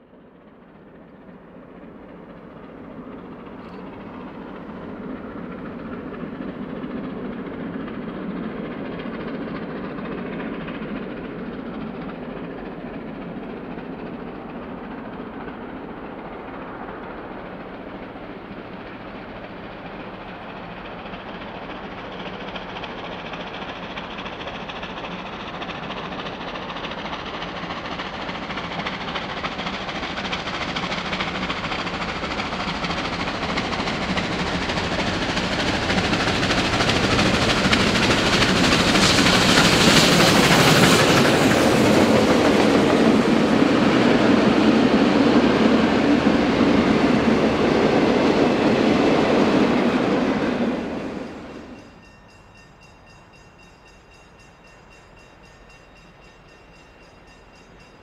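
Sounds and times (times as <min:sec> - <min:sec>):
steam locomotive rumble: 0:00.0 - 0:58.0.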